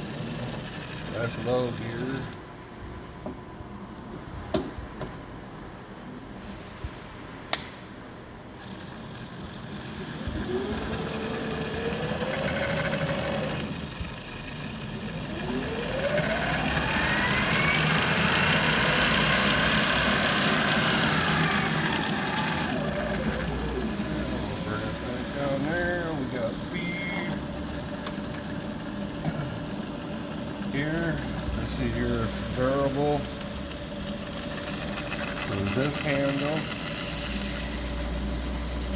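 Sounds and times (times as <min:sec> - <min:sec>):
drill press motor whining: 0:00.0 - 0:02.4, 0:08.5 - 0:38.9.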